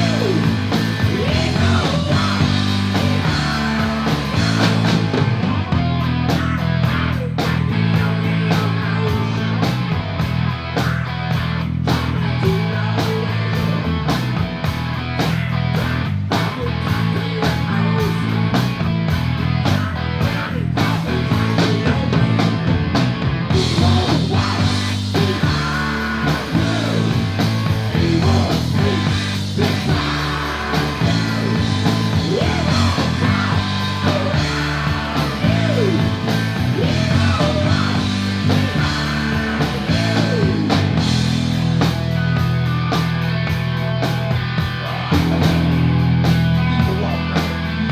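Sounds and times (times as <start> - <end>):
electric guitar lead bending: 0.0 - 47.9
live rock band playing: 0.0 - 47.9.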